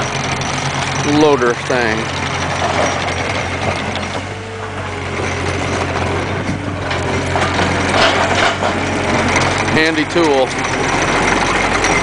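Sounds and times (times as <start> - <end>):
diesel engine running: 0.0 - 12.0
metal clanking: 0.0 - 12.0.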